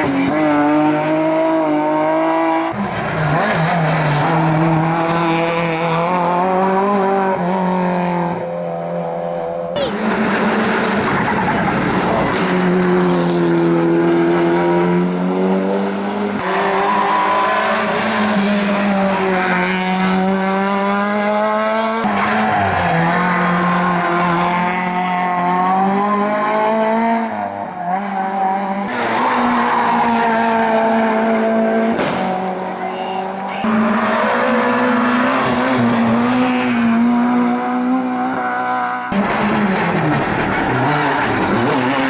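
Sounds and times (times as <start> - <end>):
race car engines accelerating: 0.0 - 42.0.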